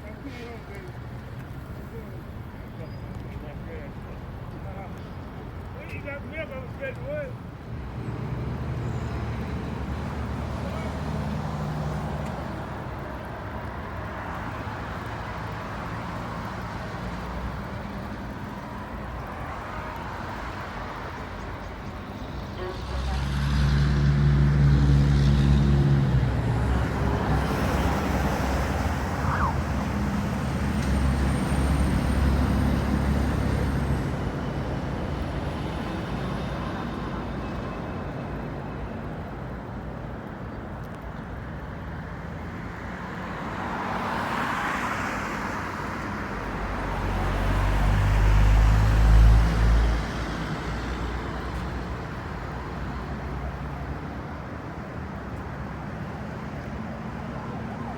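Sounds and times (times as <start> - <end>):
vehicle engines in traffic: 0.0 - 57.9.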